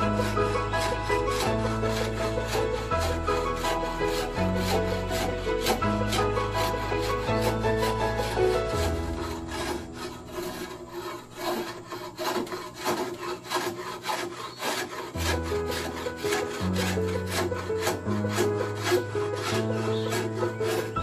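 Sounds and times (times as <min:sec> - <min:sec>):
background music: 0:00.0 - 0:21.0
hand tool scraping wood: 0:00.0 - 0:21.0.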